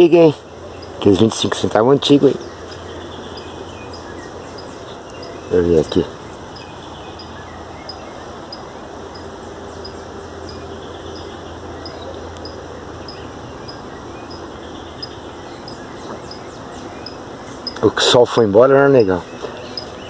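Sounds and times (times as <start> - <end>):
high insect chirp: 0.0 - 20.0
low steady hum: 0.0 - 20.0.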